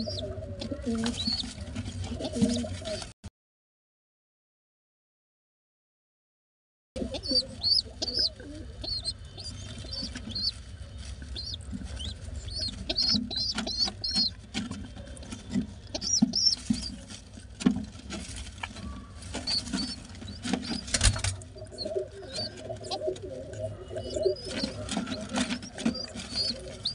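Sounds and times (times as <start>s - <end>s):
pigeon squab peeping: 0.0s - 3.1s, 7.0s - 17.5s, 18.2s - 26.9s.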